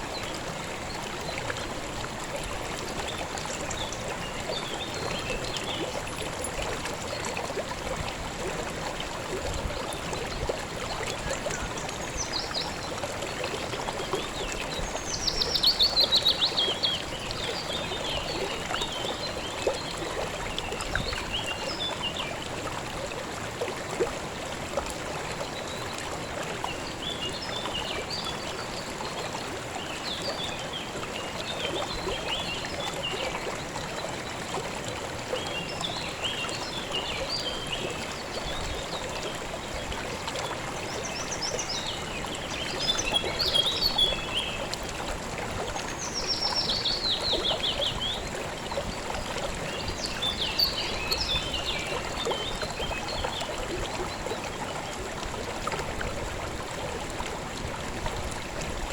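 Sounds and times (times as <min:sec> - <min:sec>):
river water flowing: 0:00.0 - 0:58.9.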